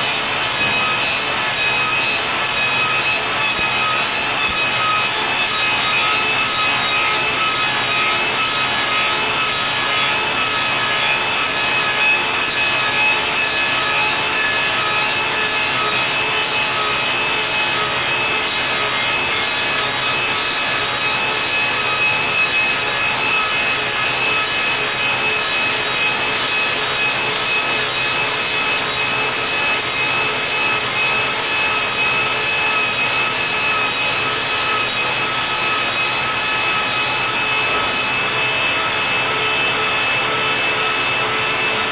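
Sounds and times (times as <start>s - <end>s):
machine whine: 0.0s - 41.9s.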